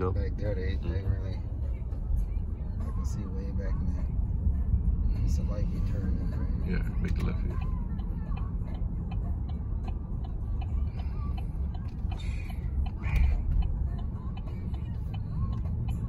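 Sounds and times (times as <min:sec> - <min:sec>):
road and engine rumble: 0:00.0 - 0:16.0
turn signal ticking: 0:00.0 - 0:16.0.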